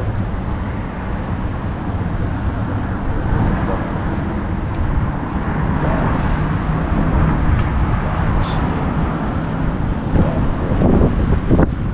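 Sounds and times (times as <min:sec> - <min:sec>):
road traffic rumble: 0:00.0 - 0:11.9
wind buffeting microphone: 0:00.0 - 0:11.9.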